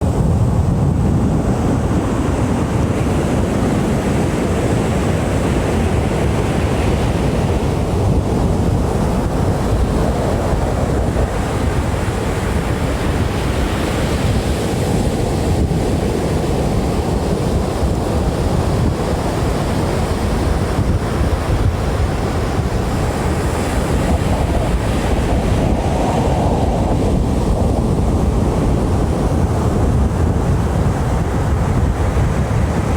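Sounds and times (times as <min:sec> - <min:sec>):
wind buffeting microphone: 0:00.0 - 0:32.9
waves breaking on beach: 0:00.2 - 0:32.9.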